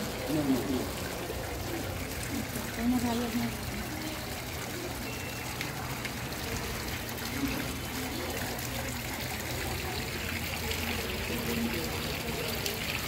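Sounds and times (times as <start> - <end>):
faint voices: 0.0 - 13.0
water feature trickling: 0.0 - 13.0.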